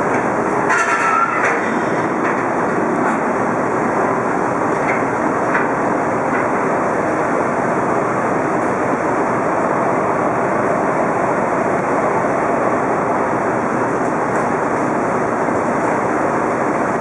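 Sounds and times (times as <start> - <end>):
ship machinery roar: 0.0 - 17.0.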